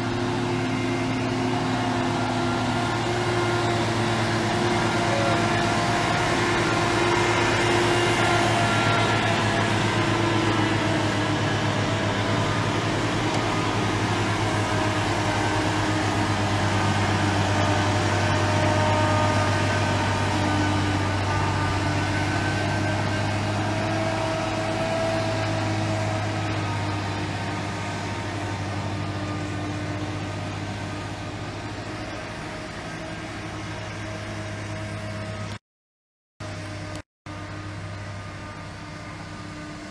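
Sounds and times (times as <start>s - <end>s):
large engine humming: 0.0s - 35.6s, 36.4s - 39.9s.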